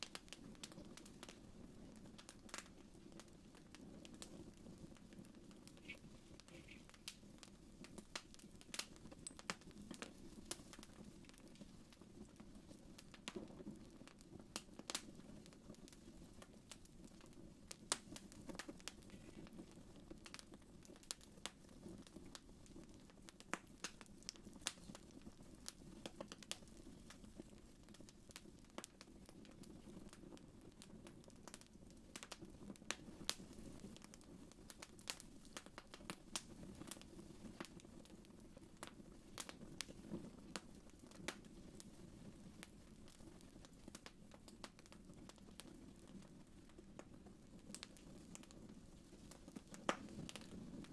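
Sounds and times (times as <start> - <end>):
fire pops and snaps: 0.0 - 50.9
low rumble of burning: 0.0 - 50.9
wood fire crackling: 0.0 - 50.9.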